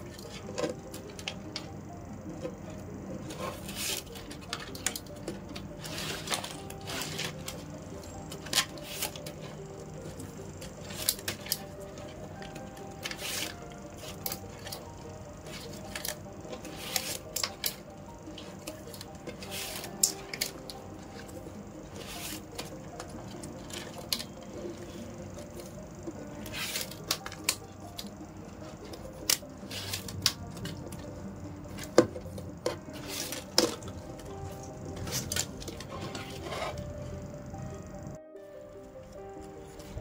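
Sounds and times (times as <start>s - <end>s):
plastic strands scraping and clicking: 0.0s - 37.3s.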